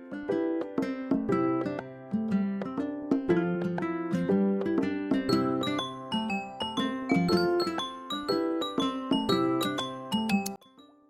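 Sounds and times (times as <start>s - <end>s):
plucked string melody: 0.0s - 10.9s.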